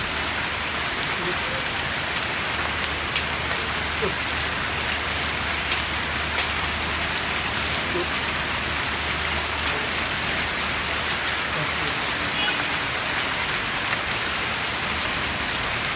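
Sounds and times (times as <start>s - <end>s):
heavy rain hissing: 0.0s - 15.9s
raindrop ticks: 0.0s - 15.9s.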